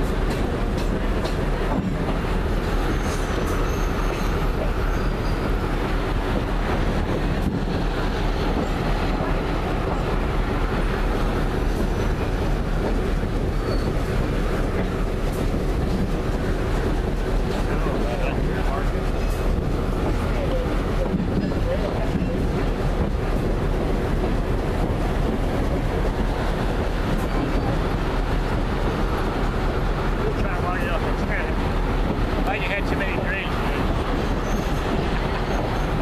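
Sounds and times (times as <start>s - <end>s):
rail joint clicks: 0.0s - 36.0s
train wheels rumbling on rail: 0.0s - 36.0s.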